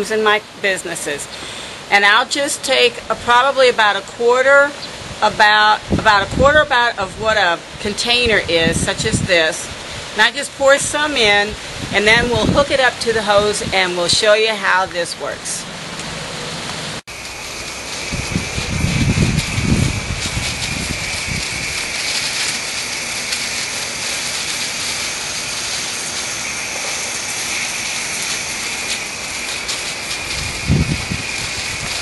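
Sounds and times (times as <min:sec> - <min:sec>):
hose spraying water into leaves: 0:00.1 - 0:32.0.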